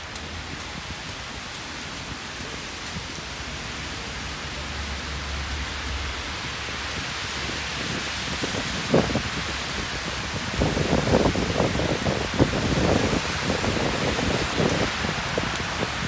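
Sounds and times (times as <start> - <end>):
rain and snow on pavement: 0.0 - 16.0.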